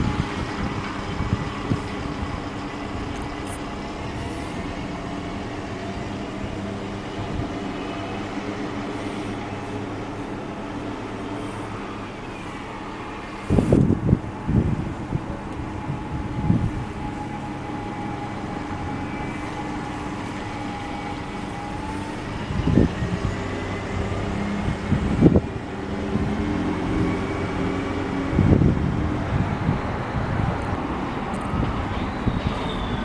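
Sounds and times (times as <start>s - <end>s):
buses driving past: 0.0s - 33.0s
engine whine: 0.0s - 33.0s
wind buffeting microphone: 0.0s - 33.0s.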